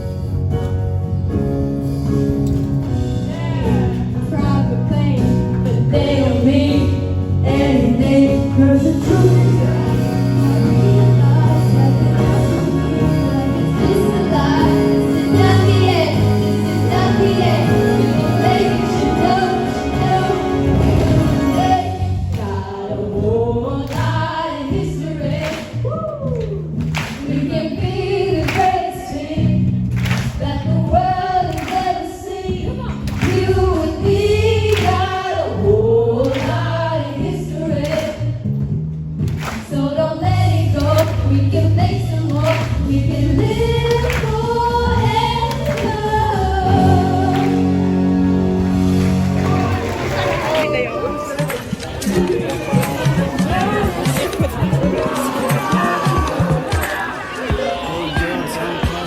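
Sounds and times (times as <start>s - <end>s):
steady bass line: 0.0s - 59.0s
pop song with singing: 3.0s - 38.5s, 39.5s - 48.2s, 49.5s - 59.0s.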